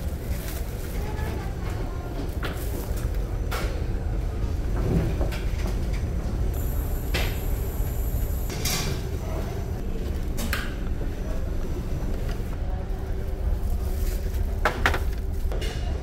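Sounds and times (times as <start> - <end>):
ferry engine rumble: 0.0 - 16.0.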